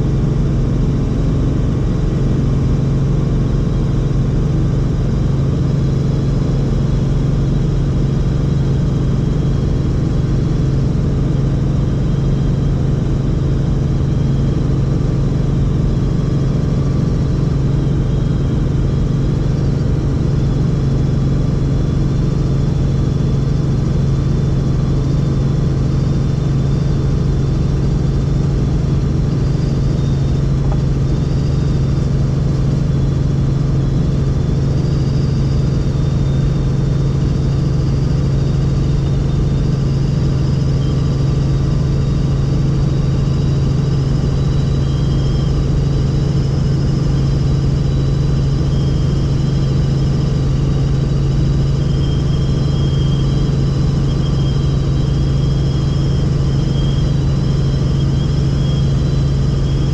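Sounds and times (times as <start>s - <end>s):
helicopter flying: 0.0s - 59.9s.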